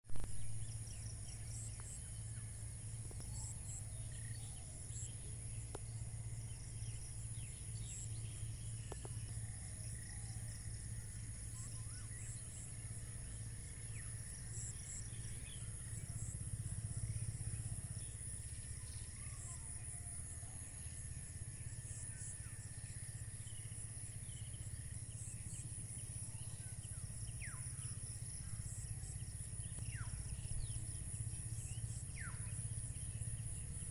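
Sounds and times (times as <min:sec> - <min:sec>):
low steady hum: 0:00.0 - 0:33.9
high insect trill: 0:00.1 - 0:33.9.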